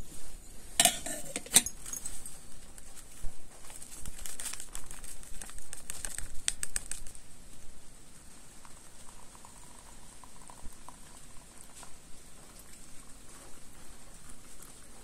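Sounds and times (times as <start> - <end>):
steady faint hiss: 0.0 - 15.0.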